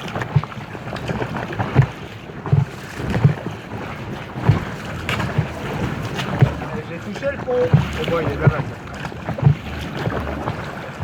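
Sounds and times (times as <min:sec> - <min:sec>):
water slapping kayak hull: 0:00.0 - 0:11.0
wind on microphone: 0:00.0 - 0:11.0.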